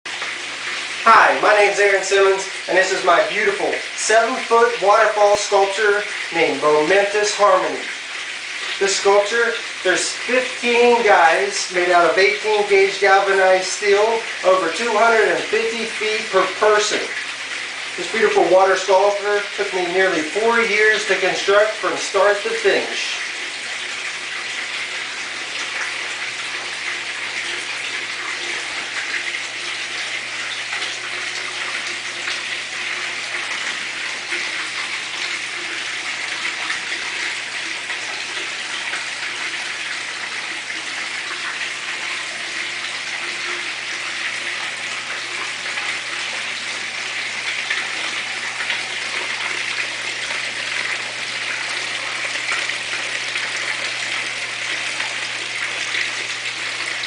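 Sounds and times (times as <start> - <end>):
water splashing down metal: 0.1 - 57.0.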